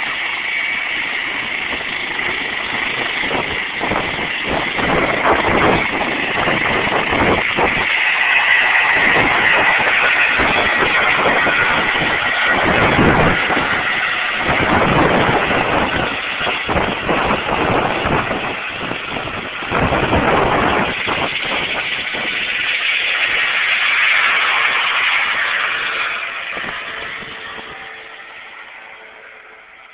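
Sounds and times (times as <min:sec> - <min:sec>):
helicopter turbine and rotor noise: 0:00.0 - 0:29.9.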